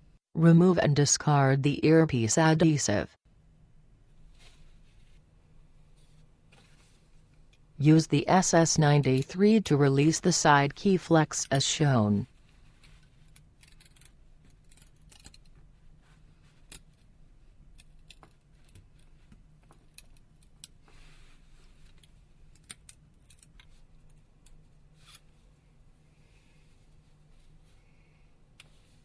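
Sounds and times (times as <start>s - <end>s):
steady low hum: 2.1s - 29.0s.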